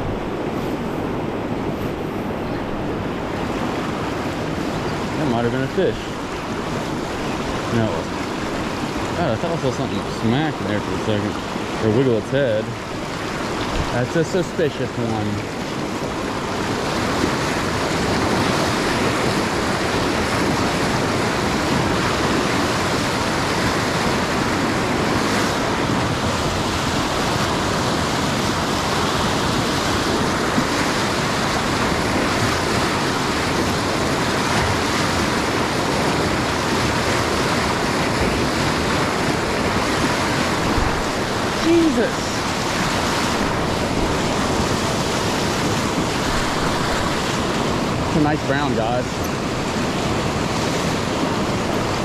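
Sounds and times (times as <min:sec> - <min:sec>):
whitewater rushing over rocks: 0:02.2 - 0:52.0.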